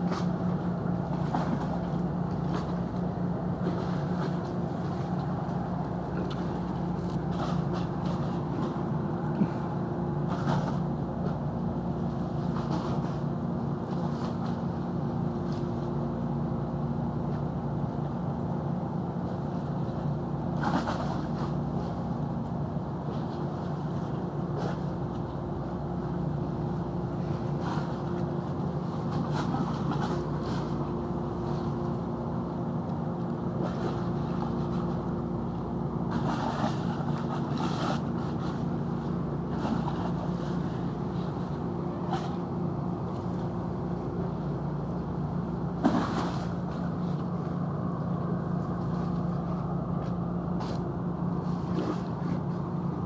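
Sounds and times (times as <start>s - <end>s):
ship engines humming: 0.0s - 53.0s.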